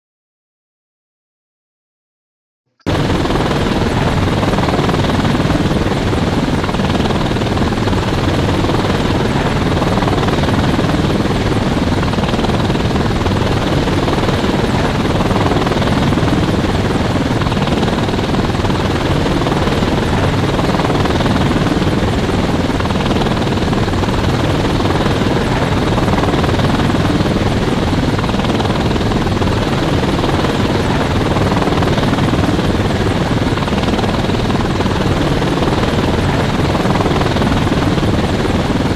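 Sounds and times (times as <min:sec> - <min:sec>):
helicopter rotor and engine: 0:02.9 - 0:38.9.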